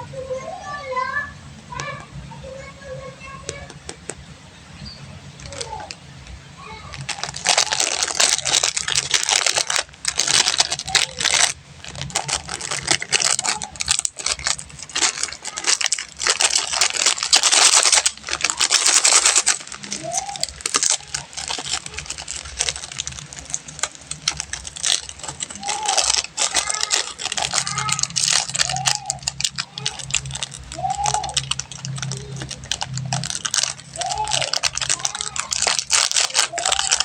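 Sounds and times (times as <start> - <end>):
candy wrappers crinkling: 0.4 - 4.3, 5.2 - 37.0.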